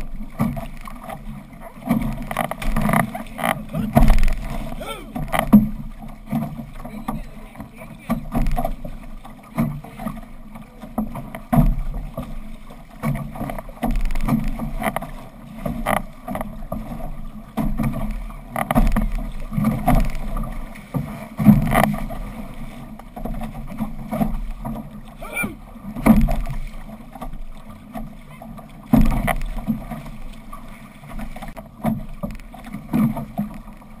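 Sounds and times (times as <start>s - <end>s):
water splashing along canoe hull: 0.0s - 34.0s.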